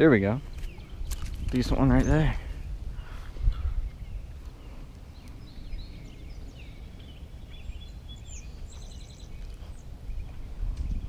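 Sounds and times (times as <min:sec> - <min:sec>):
songbirds singing: 0:00.0 - 0:11.0
low rumble on microphone: 0:00.4 - 0:11.0.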